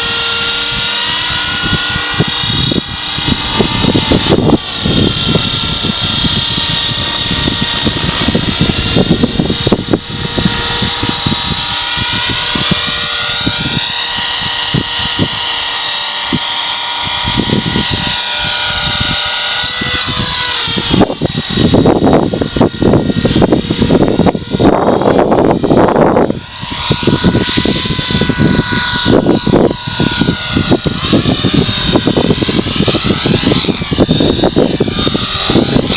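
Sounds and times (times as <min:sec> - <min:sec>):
rc helicopter whine: 0:00.0 - 0:35.9
wind buffeting microphone: 0:00.0 - 0:35.9.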